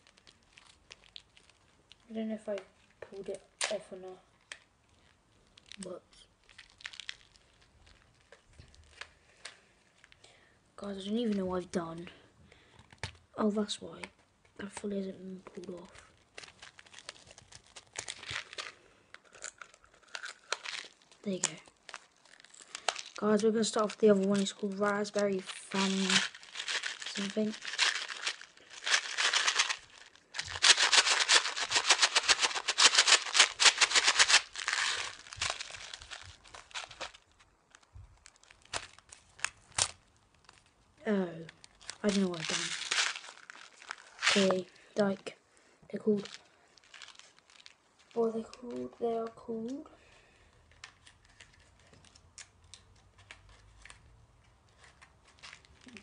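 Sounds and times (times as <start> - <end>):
plastic wrapper crinkling: 0.0 - 10.3, 10.9 - 56.0
candies and packet clicking: 0.0 - 10.4, 11.0 - 45.3, 45.9 - 49.9, 50.6 - 56.0.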